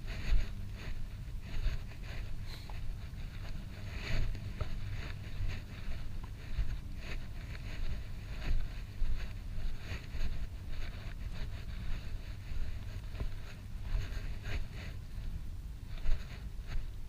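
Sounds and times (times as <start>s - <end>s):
light rustling: 0.0s - 17.0s
wind rumbling on microphone: 0.0s - 17.0s.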